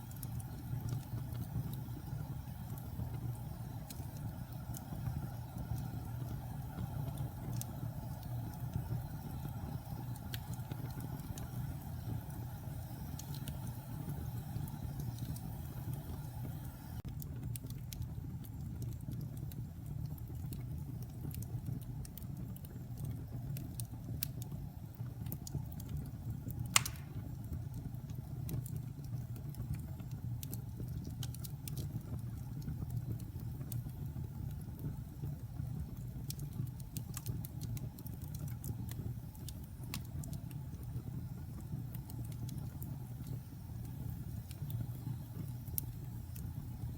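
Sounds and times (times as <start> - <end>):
fire crackling and popping: 0.0 - 46.9
wood fire flames rumbling: 0.0 - 46.9.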